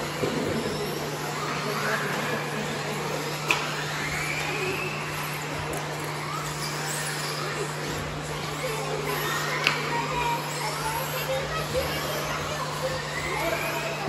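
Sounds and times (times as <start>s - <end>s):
rc car motors whining: 0.0s - 14.0s.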